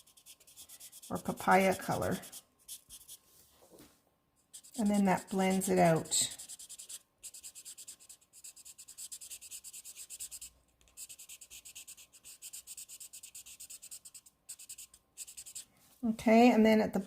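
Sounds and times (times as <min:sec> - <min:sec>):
marker tip rubbing on paper: 0:00.0 - 0:03.2, 0:04.5 - 0:15.7.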